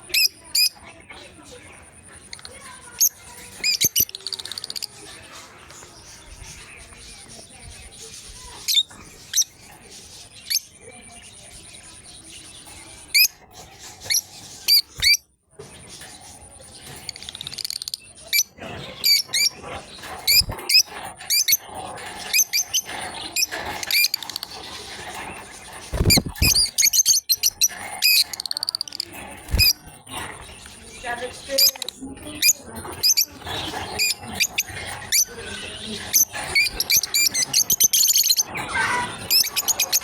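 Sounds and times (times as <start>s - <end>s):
lovebirds chirping: 0.0s - 40.0s.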